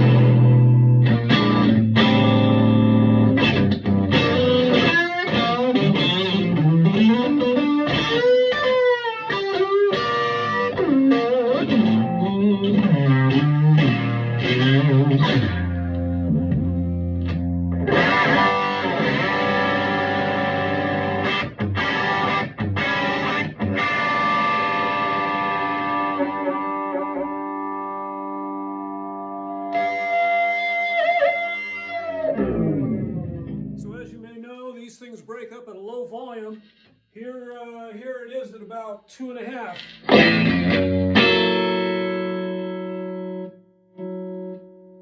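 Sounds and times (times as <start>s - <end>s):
electric guitar playing: 0.0s - 34.2s, 39.8s - 45.0s.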